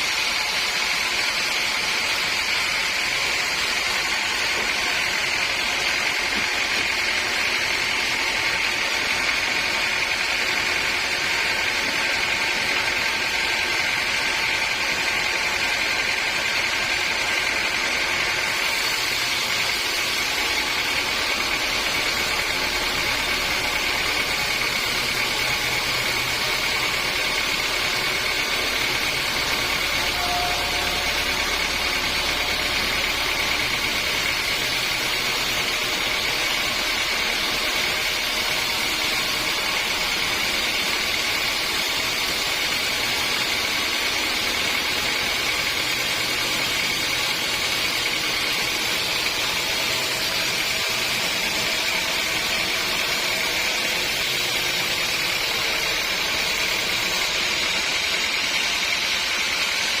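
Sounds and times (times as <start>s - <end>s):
sawmill machinery whining: 0.0s - 60.0s.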